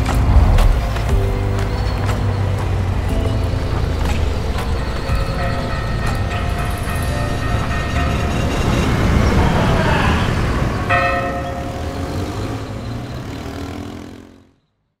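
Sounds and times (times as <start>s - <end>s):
low rumbling swell: 0.0s - 12.0s
cinematic soundtrack music: 0.0s - 13.5s
bell-like chord ringing: 0.0s - 13.7s.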